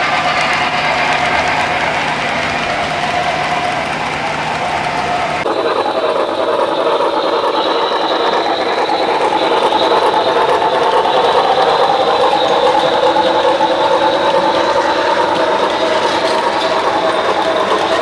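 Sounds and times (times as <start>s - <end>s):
model train wheels rumbling: 0.0s - 18.0s
steady high whine: 0.0s - 18.0s.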